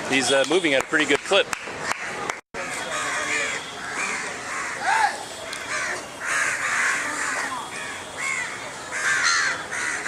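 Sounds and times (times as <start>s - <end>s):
crows cawing: 1.9s - 10.0s.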